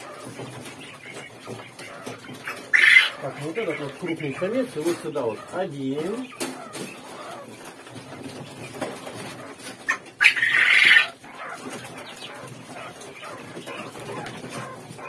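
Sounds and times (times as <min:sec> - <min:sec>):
quail calling and chirping: 0:00.0 - 0:15.0.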